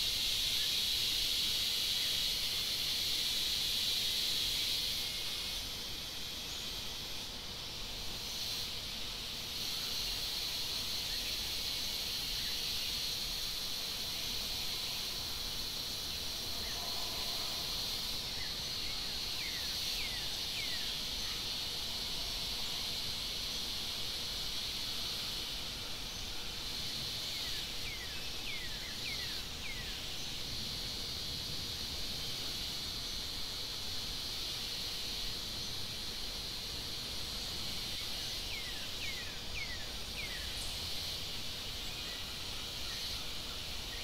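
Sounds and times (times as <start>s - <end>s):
insect chorus drone: 0.0s - 44.0s.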